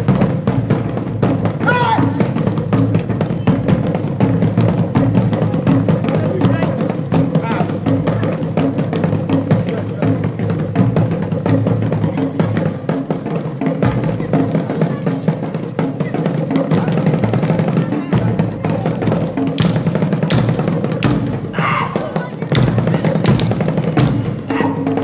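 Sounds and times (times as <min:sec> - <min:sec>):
drums in fast rhythm: 0:00.0 - 0:25.0.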